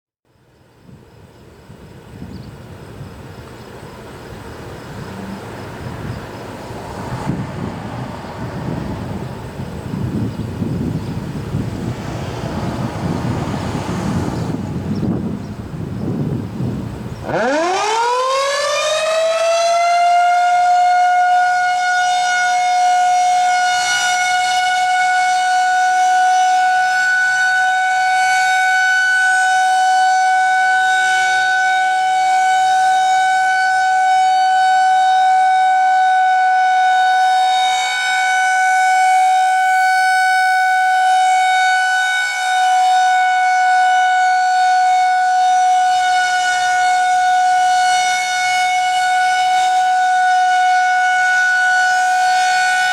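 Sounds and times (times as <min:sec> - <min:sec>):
rotating warning siren: 0:04.0 - 0:52.9.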